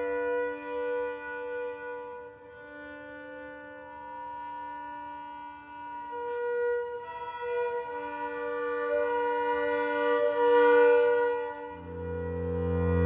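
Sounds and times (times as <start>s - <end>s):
violin and double bass bowed notes: 0.0s - 13.0s.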